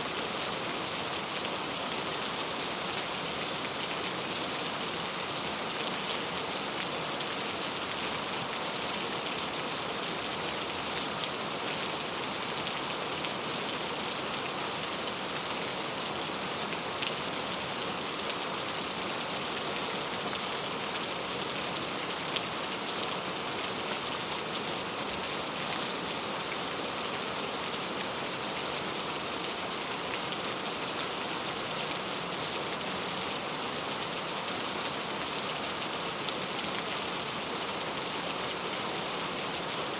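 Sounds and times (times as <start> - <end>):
rain falling on a road: 0.0 - 39.9.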